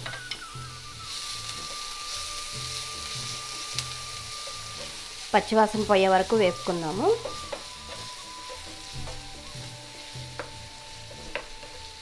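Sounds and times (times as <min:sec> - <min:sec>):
onions sizzling in a pan: 0:00.0 - 0:12.0
spatula tapping a pan: 0:01.4 - 0:12.0.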